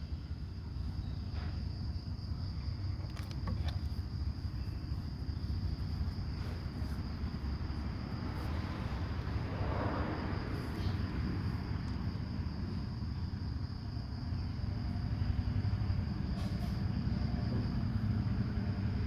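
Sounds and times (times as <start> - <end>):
insect chirring: 0.0 - 19.0.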